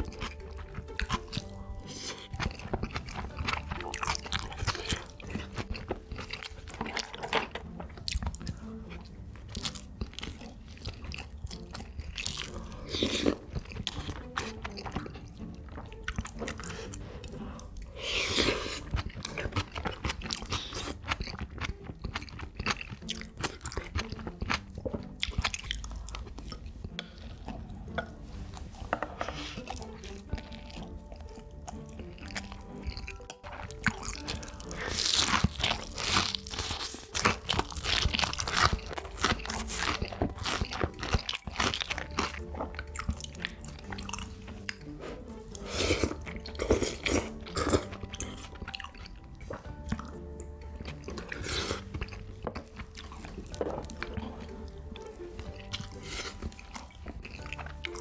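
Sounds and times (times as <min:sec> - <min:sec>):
background music: 0:00.0 - 0:58.0
person crunching and chewing: 0:00.0 - 0:58.0.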